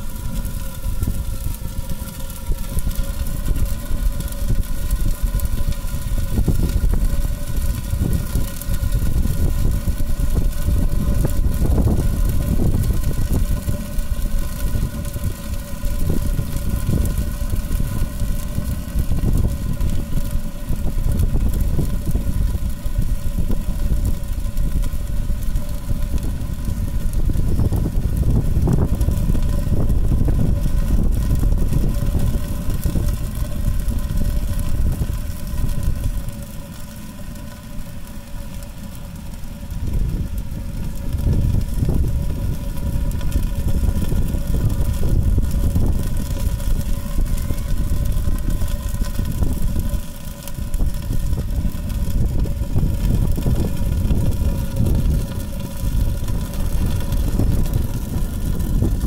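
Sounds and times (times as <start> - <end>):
faint constant hum: 0.0 - 59.0
fire roaring in metal drum: 0.0 - 59.0.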